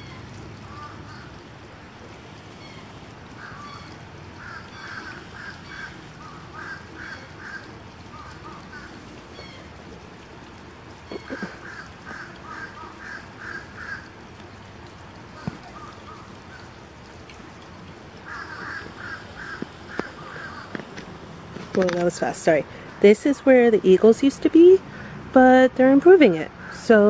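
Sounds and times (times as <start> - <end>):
birds calling: 0.0 - 9.8, 10.9 - 22.9.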